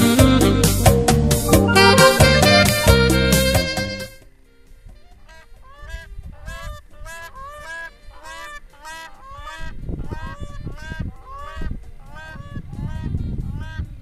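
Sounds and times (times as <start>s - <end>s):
cranes honking: 0.0s - 13.9s.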